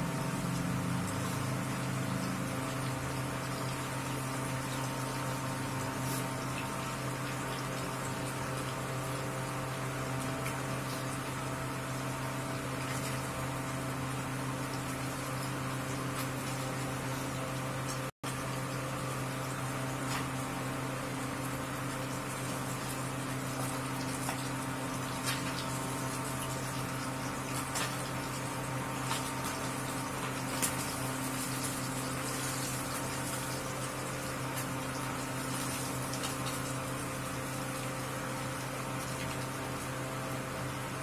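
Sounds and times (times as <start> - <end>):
cooktop electrical hum: 0.0 - 41.0
fish sizzling in hot oil: 0.0 - 41.0.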